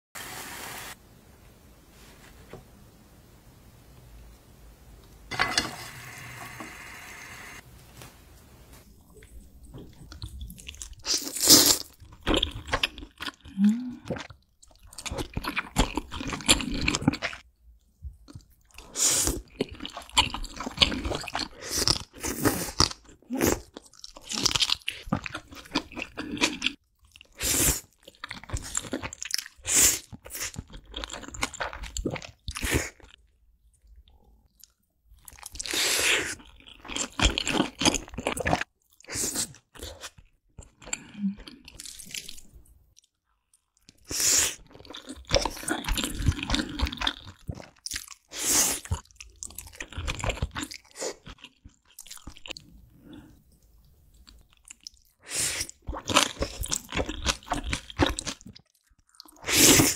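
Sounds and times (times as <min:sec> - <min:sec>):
person chewing noodles: 0:09.0 - 0:17.4, 0:18.3 - 0:33.2, 0:34.0 - 0:59.9.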